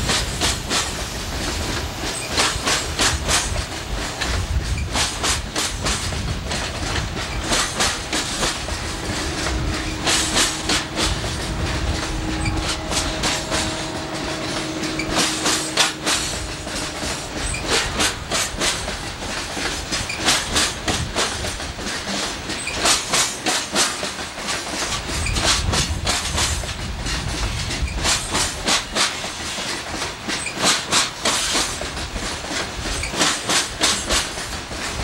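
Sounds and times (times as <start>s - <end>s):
low train rumble: 0.0s - 35.0s
train wheels clacking over rail joints: 0.0s - 35.0s.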